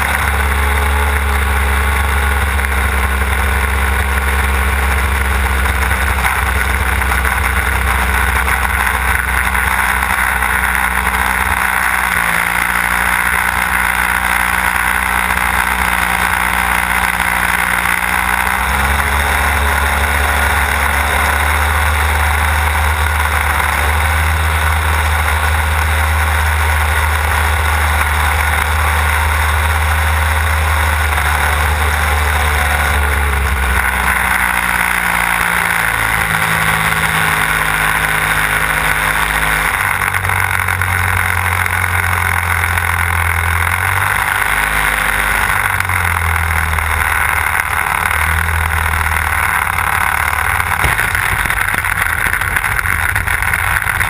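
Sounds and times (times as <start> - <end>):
model plane engine and propeller: 0.0 - 54.0.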